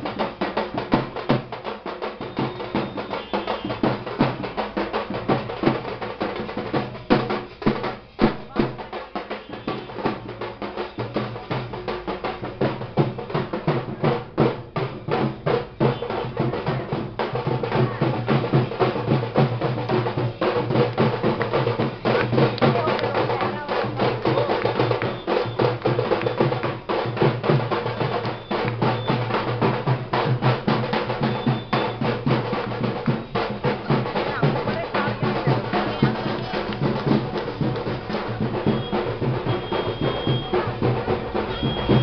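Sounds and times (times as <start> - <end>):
fast live drumming: 0.0 - 42.0.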